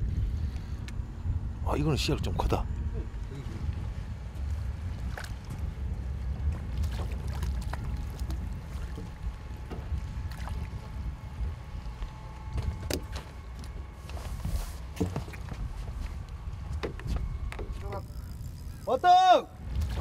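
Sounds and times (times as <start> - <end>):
boat engine rumble: 0.0 - 20.0
water lapping at hull: 3.1 - 20.0.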